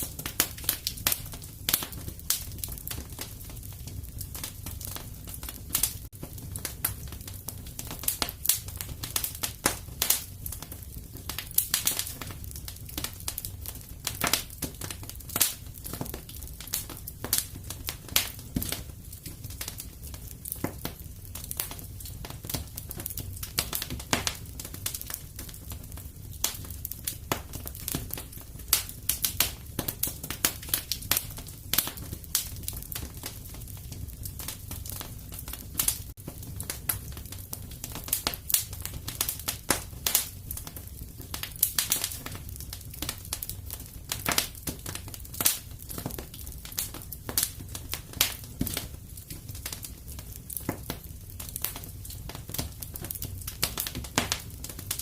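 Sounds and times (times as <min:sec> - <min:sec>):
fireplace crackling and popping: 0:00.0 - 0:55.0
low rumble of fire: 0:00.0 - 0:55.0.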